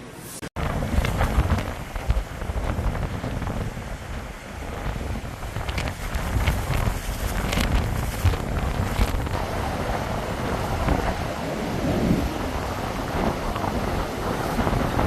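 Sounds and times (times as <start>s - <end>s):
strong wind gusting: 0.6s - 15.0s.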